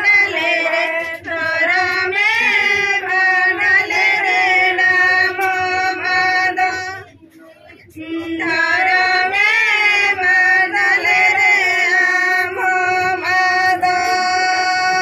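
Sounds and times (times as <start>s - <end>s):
people singing: 0.0s - 15.0s.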